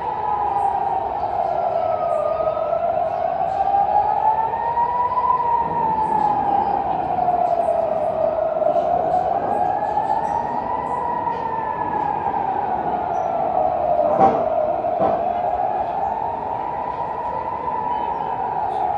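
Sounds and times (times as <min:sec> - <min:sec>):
warning siren wailing: 0:00.0 - 0:18.9.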